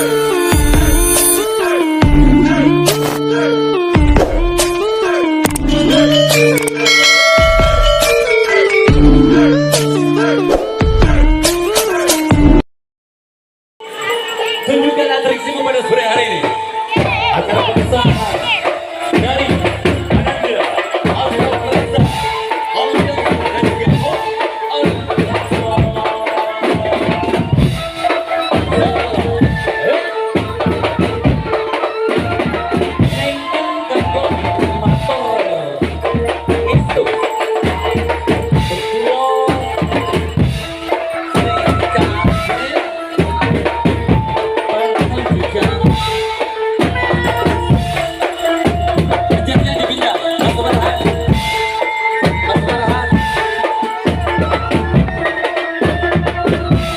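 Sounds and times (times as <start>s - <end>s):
melody of held notes: 0.0s - 12.4s, 13.8s - 56.9s
low drums beating: 0.0s - 12.6s, 16.4s - 56.9s.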